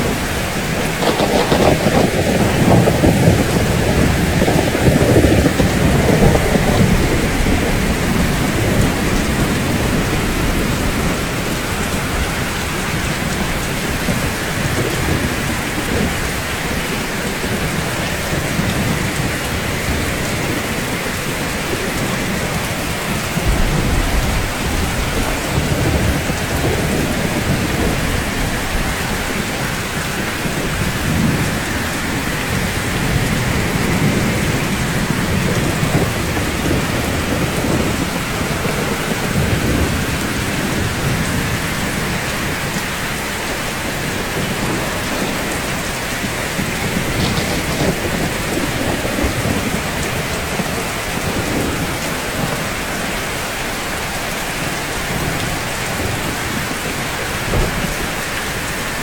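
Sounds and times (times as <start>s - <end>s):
rain falling: 0.0s - 59.0s
thunder rumbling: 0.0s - 59.0s.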